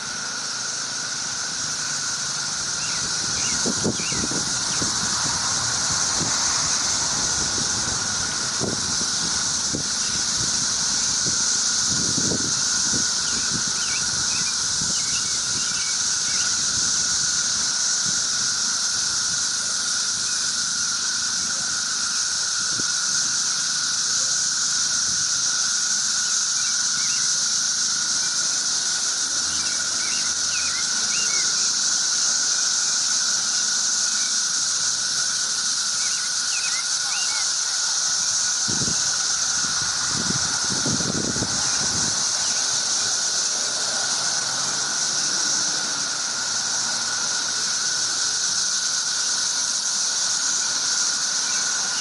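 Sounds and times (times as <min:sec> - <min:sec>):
cicadas buzzing: 0:00.0 - 0:52.0.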